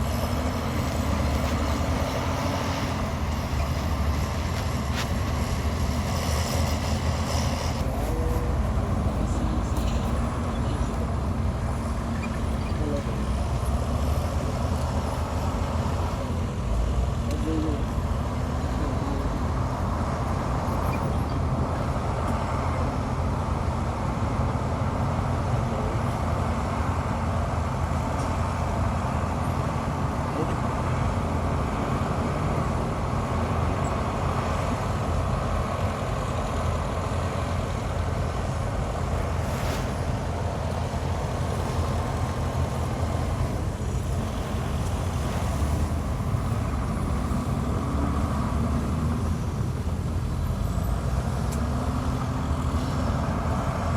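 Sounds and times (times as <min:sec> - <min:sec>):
heavy machinery diesel engines droning: 0:00.0 - 0:53.9.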